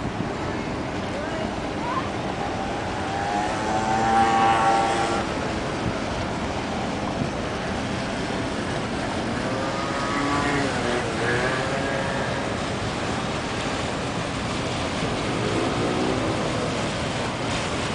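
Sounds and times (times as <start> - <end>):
boat engines: 0.0 - 17.9
choppy water: 0.0 - 17.9.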